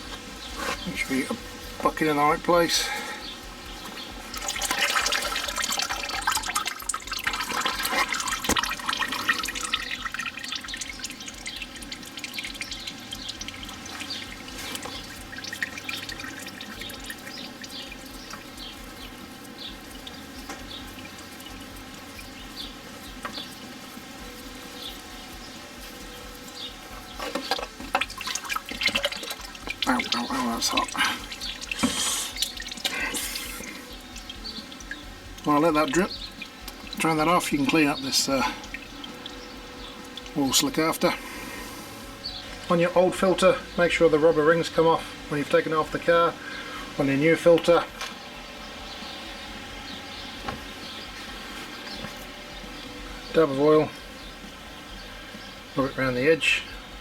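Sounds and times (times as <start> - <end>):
oil pouring and splashing: 0.0 - 57.0.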